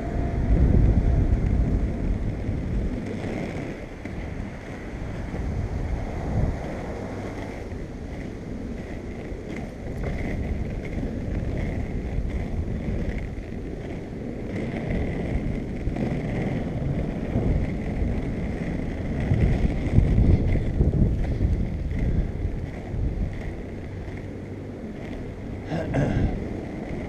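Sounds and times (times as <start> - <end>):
skateboard wheels rolling on asphalt: 0.0 - 27.0
wind buffeting microphone: 0.0 - 27.0.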